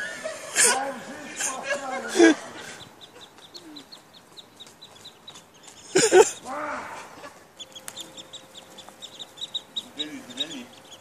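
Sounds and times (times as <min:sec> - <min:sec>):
ducklings peeping: 0:01.8 - 0:11.0.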